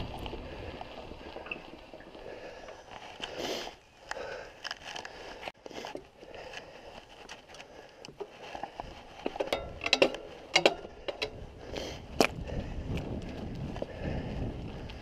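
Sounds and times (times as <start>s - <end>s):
bike clicks and rattles: 0.0s - 15.0s
bike tyres on wet concrete: 0.0s - 15.0s.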